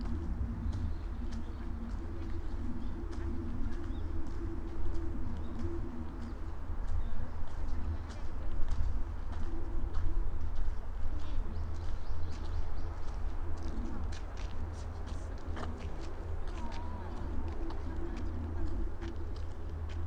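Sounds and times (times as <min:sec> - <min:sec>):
footsteps walking: 0:00.0 - 0:20.0
pigeons cooing: 0:00.0 - 0:20.0.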